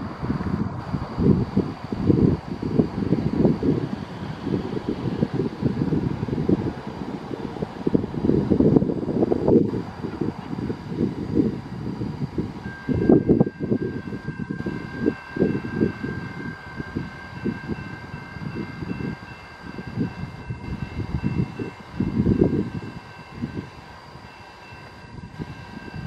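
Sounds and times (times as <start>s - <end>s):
train rumbling and clattering: 0.0s - 26.0s.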